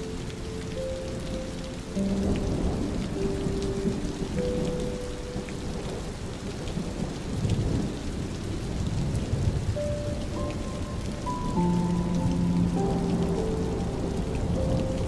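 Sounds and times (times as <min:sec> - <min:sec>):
steady rain: 0:00.0 - 0:15.0
low rolling thunder: 0:02.0 - 0:15.0.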